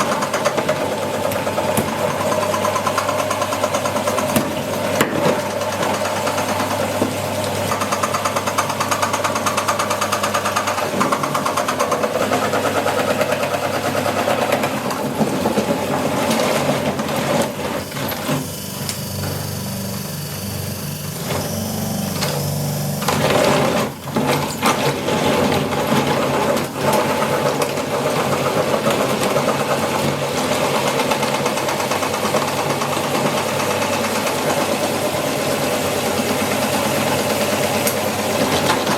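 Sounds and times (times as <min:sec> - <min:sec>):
meat grinder motor running: 0:00.0 - 0:38.9.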